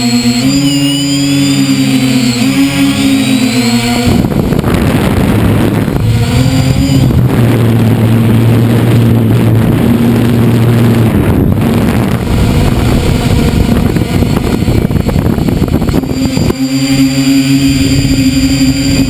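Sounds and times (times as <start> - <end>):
drone motors humming: 0.0 - 19.0
rushing noise: 0.0 - 19.0.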